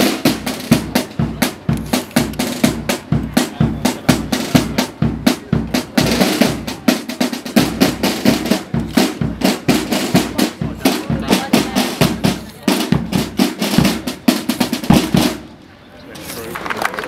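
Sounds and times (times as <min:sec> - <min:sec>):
snare drums marching beat: 0:00.0 - 0:15.5.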